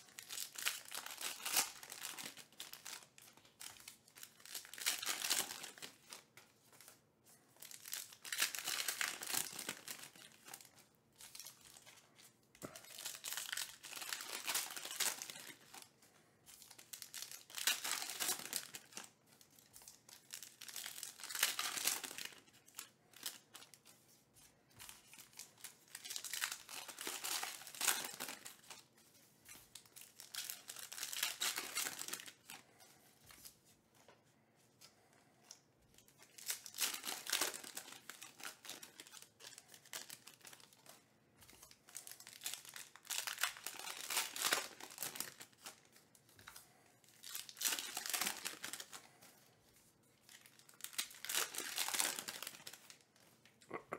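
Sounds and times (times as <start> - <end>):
card pack wrappers crinkling tearing: 0.0 - 7.0, 7.6 - 24.0, 24.7 - 33.5, 35.9 - 53.6.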